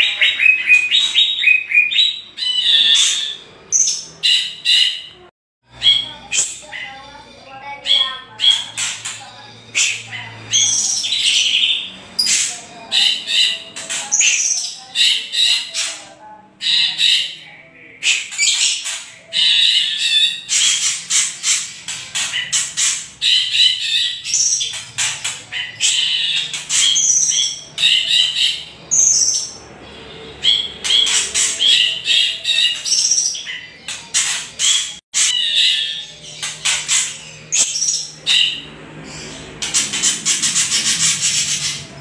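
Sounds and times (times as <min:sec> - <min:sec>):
birds rattling and chattering: 0:00.0 - 0:42.0.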